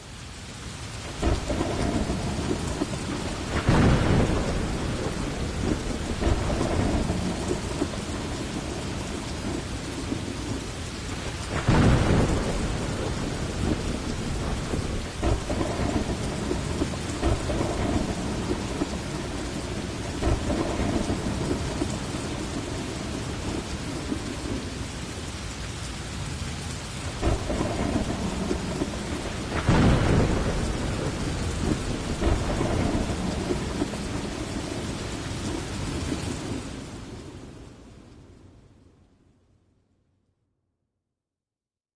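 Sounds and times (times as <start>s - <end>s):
steady rain: 0.0s - 40.0s
rolling thunder: 1.0s - 25.3s, 26.3s - 37.7s.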